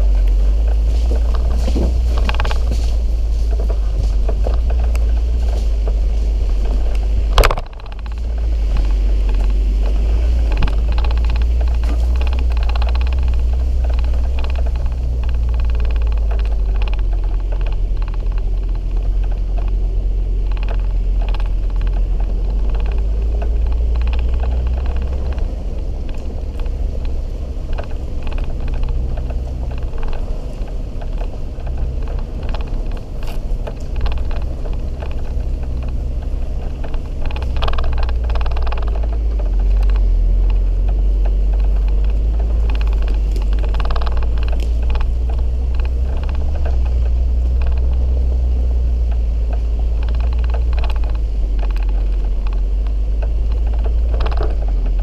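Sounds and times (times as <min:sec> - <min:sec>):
vehicle rumble on rough dirt track: 0:00.0 - 0:55.0.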